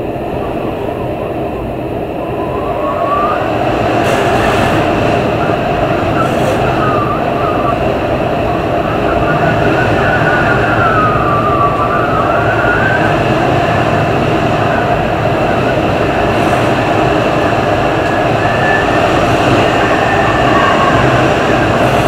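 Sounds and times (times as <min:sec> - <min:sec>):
strong wind howling: 0:00.0 - 0:22.0.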